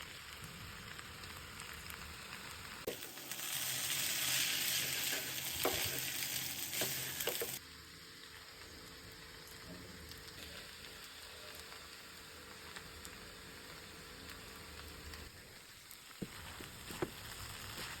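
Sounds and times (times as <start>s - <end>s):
noodles sizzling in a pan: 0.0s - 18.0s.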